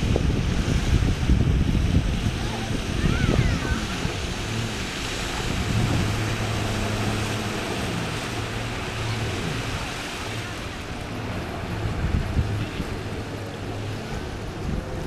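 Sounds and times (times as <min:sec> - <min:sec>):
jet ski engine droning: 0:00.0 - 0:15.0
small waves: 0:00.0 - 0:15.0.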